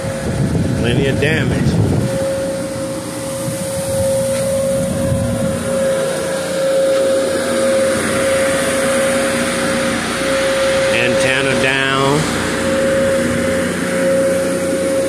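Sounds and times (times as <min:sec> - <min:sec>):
machine whining and rushing: 0:00.0 - 0:15.0.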